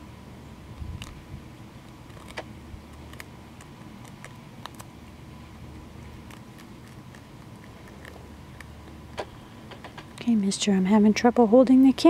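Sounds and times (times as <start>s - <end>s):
low steady rumble: 0.0s - 12.0s
rabbit crunching food: 0.6s - 10.5s.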